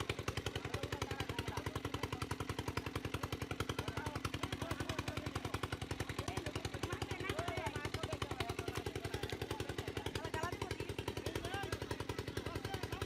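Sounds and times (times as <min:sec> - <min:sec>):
water pump engine chugging: 0:00.0 - 0:13.0.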